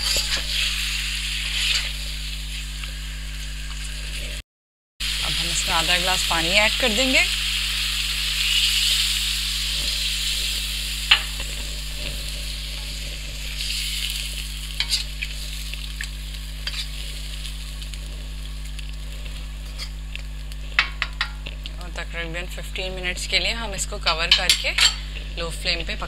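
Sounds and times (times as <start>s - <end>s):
chicken sizzling in hot fat: 0.0s - 4.4s, 5.0s - 26.0s.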